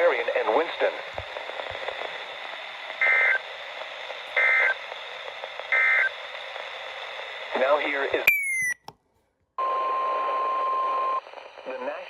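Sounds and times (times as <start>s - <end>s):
radio static: 0.0s - 8.7s, 10.1s - 12.0s.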